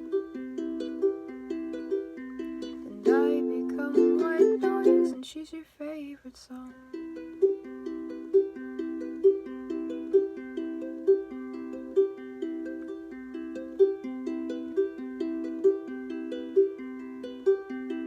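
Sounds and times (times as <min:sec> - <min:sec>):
plucked string instrument: 0:00.0 - 0:05.4, 0:06.5 - 0:18.0.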